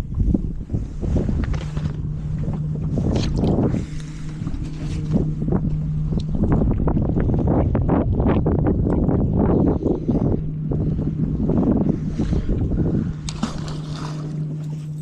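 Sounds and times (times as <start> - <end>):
boat motor humming: 0.0 - 15.0
water splashing against hull: 0.0 - 15.0
wind rumbling on microphone: 0.0 - 15.0.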